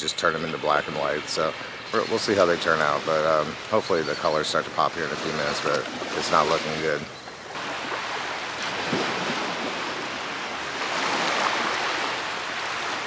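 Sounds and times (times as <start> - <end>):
waves washing onto sandy beach: 0.0 - 13.0.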